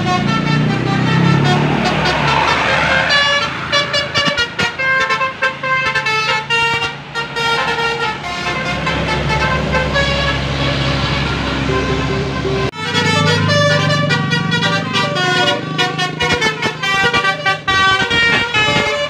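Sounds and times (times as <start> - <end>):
bus engine running: 0.0 - 19.0
multi-tone bus horn tune: 0.0 - 19.0.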